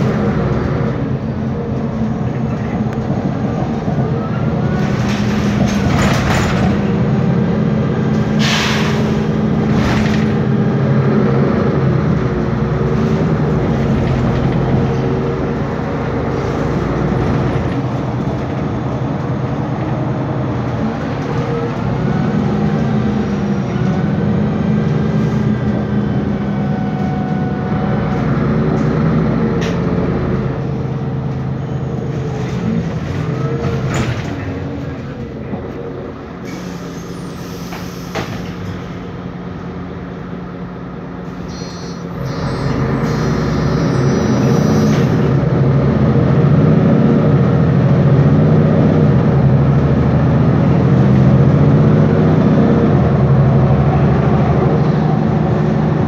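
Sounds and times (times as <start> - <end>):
bus engine and fan drone: 0.0 - 56.0.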